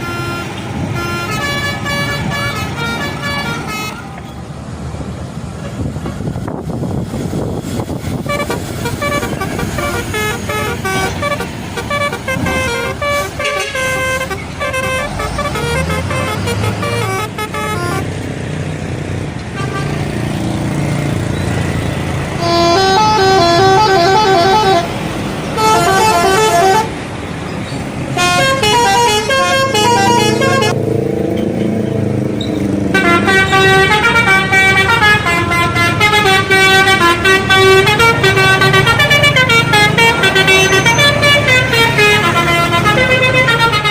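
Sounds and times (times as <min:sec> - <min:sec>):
bus horns playing melodies: 0:00.0 - 0:04.4, 0:07.8 - 0:18.3, 0:19.4 - 0:20.3, 0:21.6 - 0:30.9, 0:32.9 - 0:43.9
bus engine running: 0:00.0 - 0:43.9.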